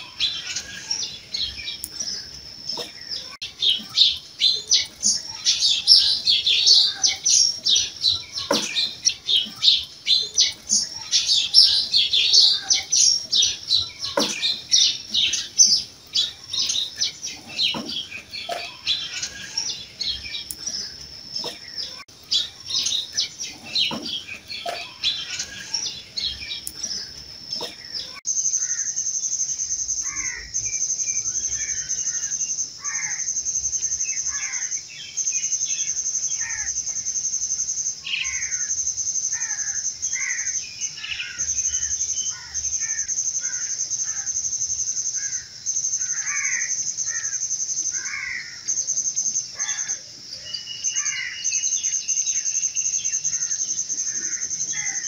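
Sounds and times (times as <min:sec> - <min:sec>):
birds chirping: 0:00.0 - 0:55.0
high-pitched insect trill: 0:03.5 - 0:55.0.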